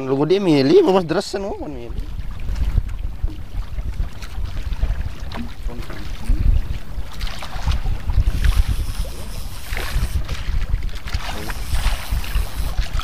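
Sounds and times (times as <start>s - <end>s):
water slapping boat hull: 0.0s - 13.0s
wind buffeting microphone: 0.0s - 13.0s.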